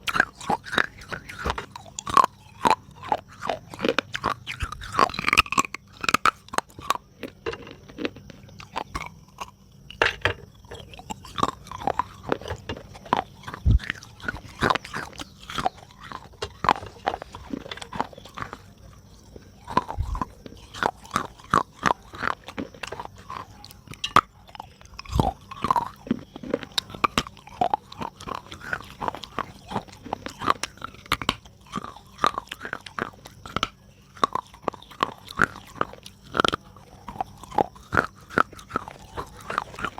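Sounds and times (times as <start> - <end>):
wet crunching of chewed clay: 0.0 - 39.9.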